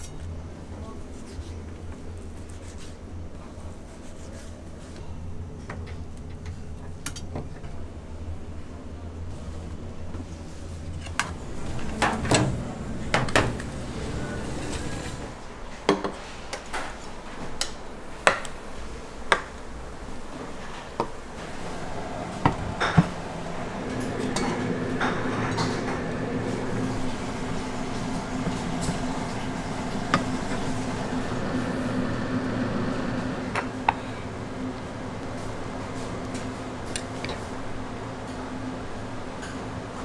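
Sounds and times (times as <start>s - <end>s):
low steady hum: 0.0s - 15.5s, 19.6s - 40.0s.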